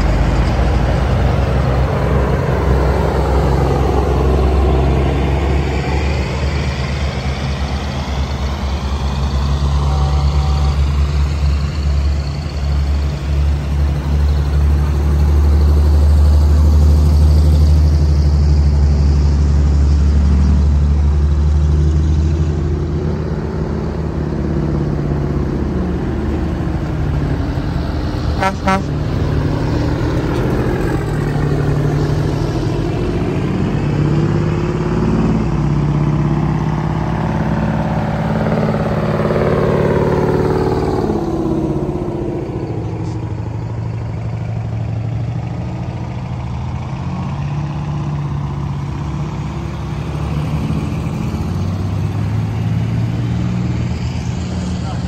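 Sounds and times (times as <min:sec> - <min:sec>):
heavy truck engines driving past: 0:00.0 - 0:55.0.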